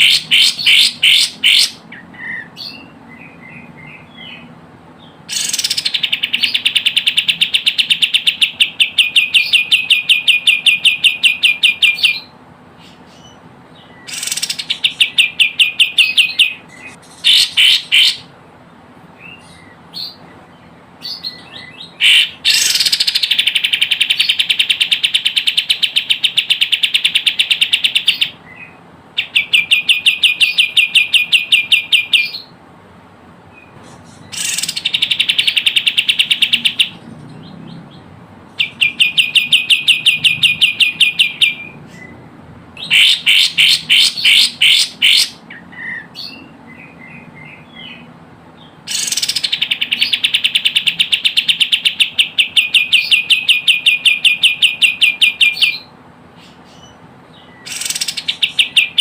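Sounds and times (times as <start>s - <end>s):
recorded bulbul song: 0.0s - 59.0s.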